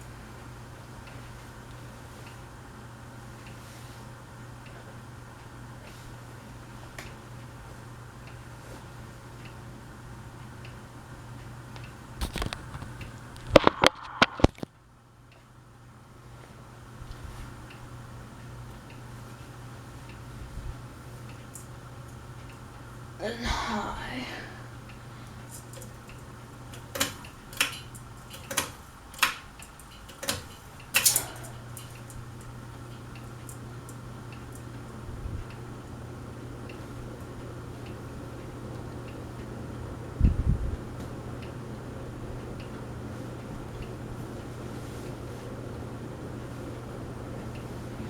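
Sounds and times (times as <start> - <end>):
ceiling fan humming: 0.0 - 48.0
fan ticking: 0.0 - 48.0.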